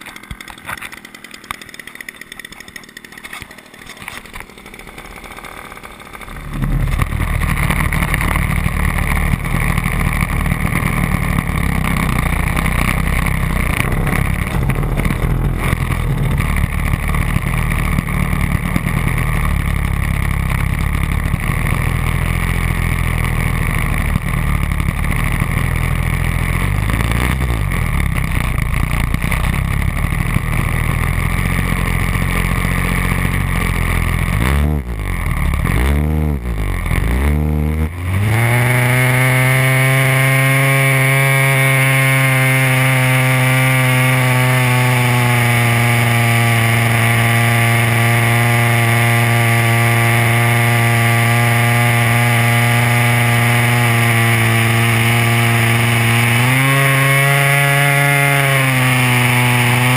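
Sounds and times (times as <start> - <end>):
model airplane two-stroke engine: 0.0 - 59.9.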